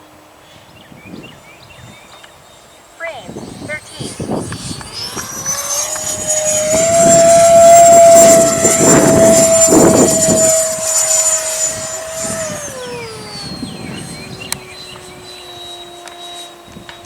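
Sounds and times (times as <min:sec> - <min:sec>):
electric ducted-fan jet whine: 0:00.0 - 0:17.0.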